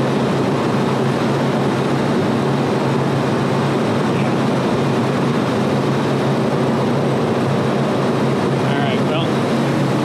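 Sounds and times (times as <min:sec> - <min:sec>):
refrigeration equipment drone: 0:00.0 - 0:10.0.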